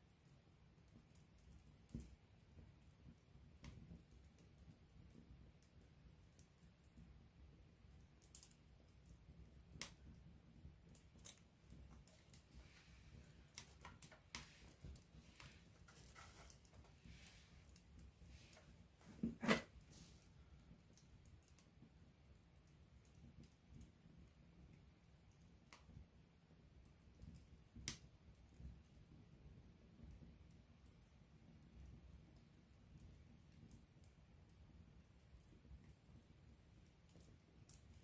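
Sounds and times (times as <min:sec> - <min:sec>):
campfire crackling: 0:00.1 - 0:38.0.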